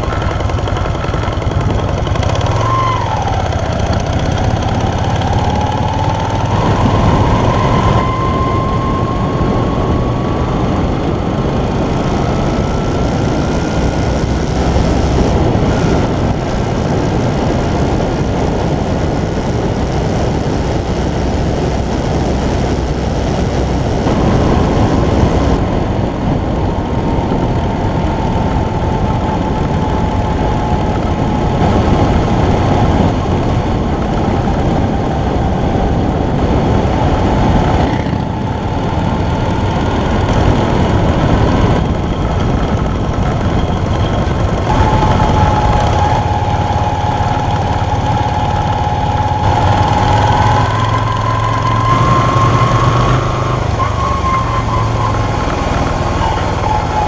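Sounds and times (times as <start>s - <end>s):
heavy wind rush: 0.0s - 57.0s
motorcycle engine cruising: 0.0s - 57.0s.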